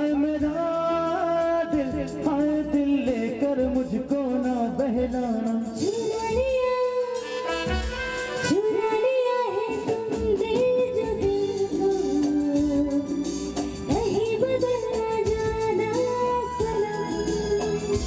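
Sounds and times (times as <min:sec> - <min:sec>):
live band playing film song: 0:00.0 - 0:18.0.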